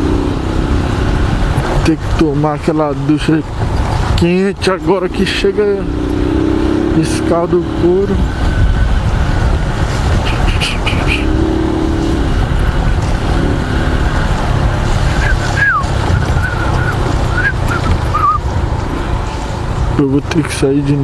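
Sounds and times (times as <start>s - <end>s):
wind buffeting microphone: 0.0s - 7.0s, 7.6s - 20.0s
motorcycle engine running: 0.0s - 20.0s.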